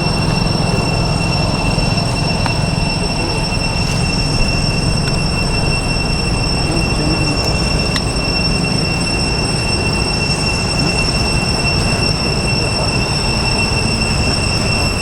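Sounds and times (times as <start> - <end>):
cicadas droning: 0.0 - 15.0
low rumble: 0.0 - 15.0.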